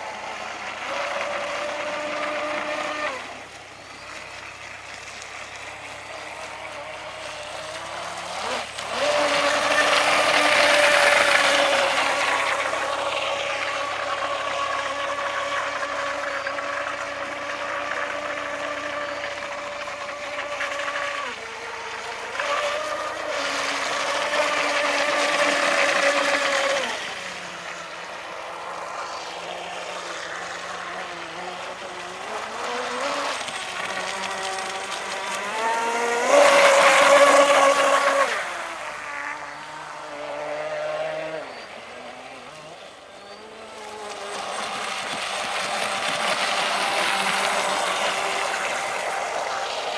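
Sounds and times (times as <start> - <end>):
rc boat electric motor whine: 0.0 - 49.9.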